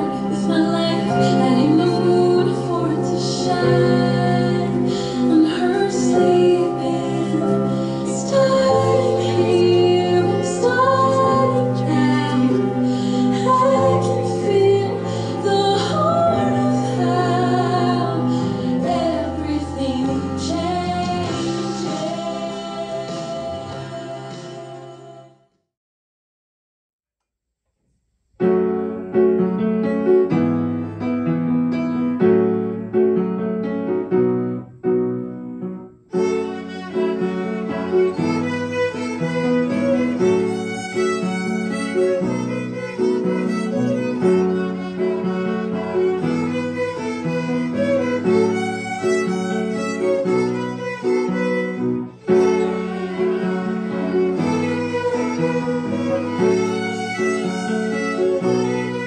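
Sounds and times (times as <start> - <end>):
violins playing a tune: 0.0 - 24.7, 36.2 - 59.0.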